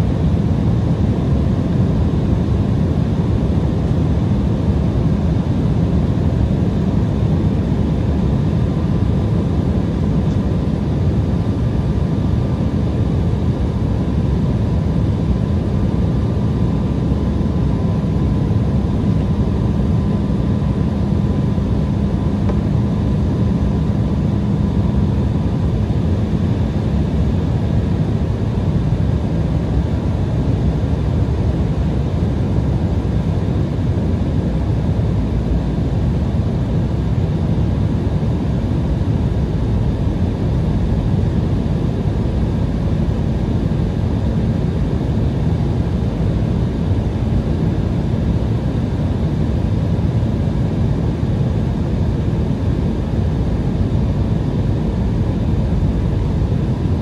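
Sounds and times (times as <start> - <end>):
jet engine noise: 0.0 - 57.0
steady low hum: 0.0 - 57.0.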